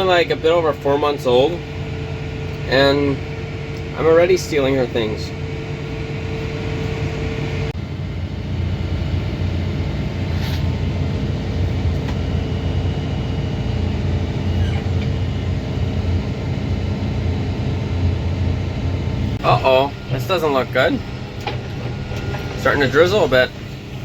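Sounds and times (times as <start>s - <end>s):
faint steady whine: 0.0s - 24.0s
tractor engine droning: 0.0s - 24.0s.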